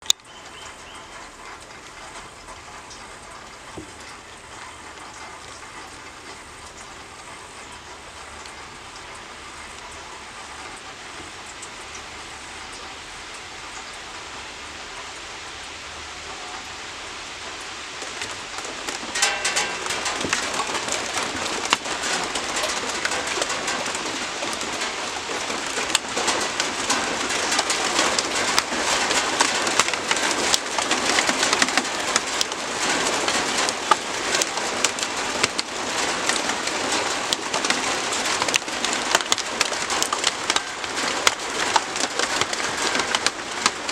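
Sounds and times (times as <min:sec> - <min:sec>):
close raindrop hits: 0:00.0 - 0:43.9
rain falling: 0:00.0 - 0:43.9.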